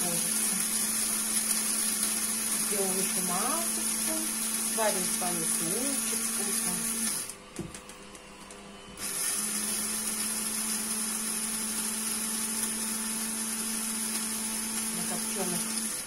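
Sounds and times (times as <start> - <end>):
coffee grinder motor whining: 0.0 - 7.4, 9.0 - 16.0.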